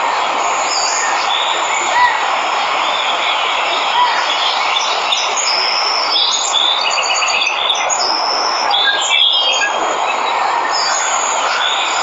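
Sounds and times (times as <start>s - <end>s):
waterfall rushing: 0.0s - 12.0s
birds chirping and trilling: 0.2s - 12.0s.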